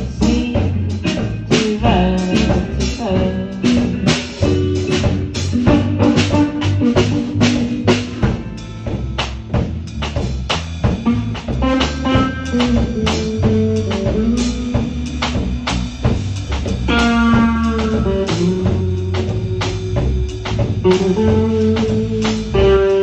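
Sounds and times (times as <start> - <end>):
band music: 0.0 - 23.0
bass line: 0.0 - 23.0
drum kit beat: 0.0 - 23.0.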